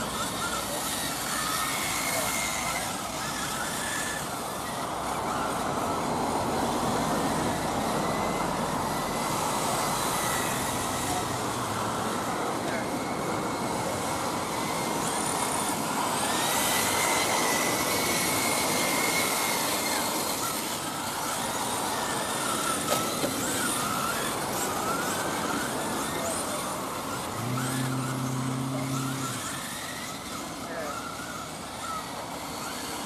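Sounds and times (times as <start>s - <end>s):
rc car motors whining: 0.0s - 33.0s.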